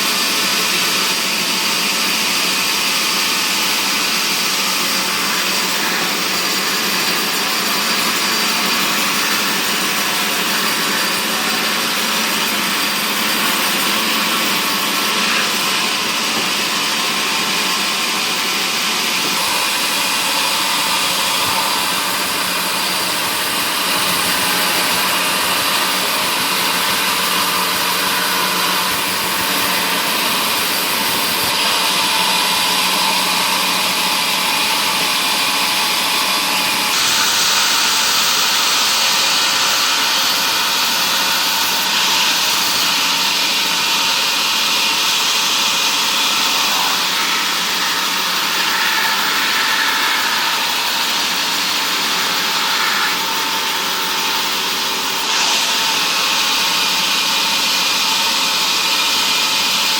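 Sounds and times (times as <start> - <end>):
woodworking machine whirring hiss: 0.0 - 59.9.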